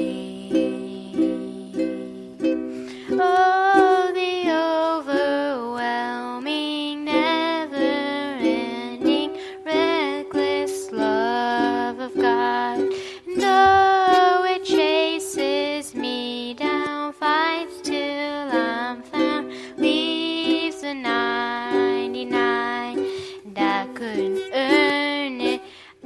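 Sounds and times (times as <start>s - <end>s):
person singing: 0.0s - 26.0s
plucked string accompaniment: 0.0s - 26.0s.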